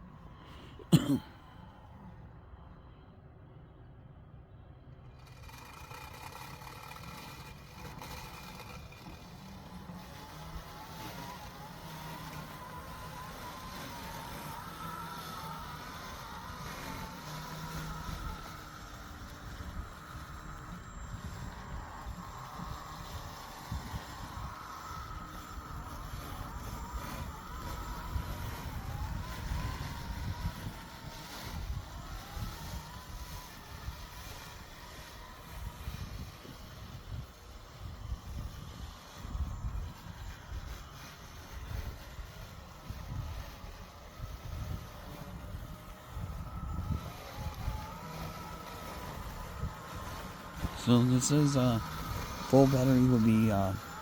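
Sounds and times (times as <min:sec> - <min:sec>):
faint wavering whine: 0:00.0 - 0:54.0
robotic mower motor hum: 0:04.9 - 0:54.0
wind on microphone: 0:07.2 - 0:54.0.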